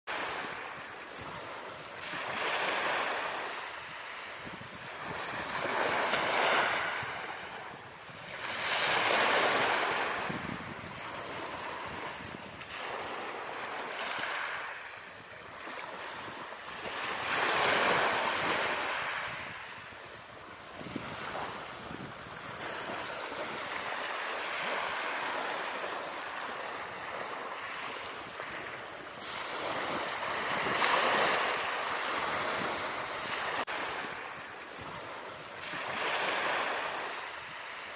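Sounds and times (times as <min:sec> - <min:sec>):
ocean waves washing in: 0:00.1 - 0:37.9.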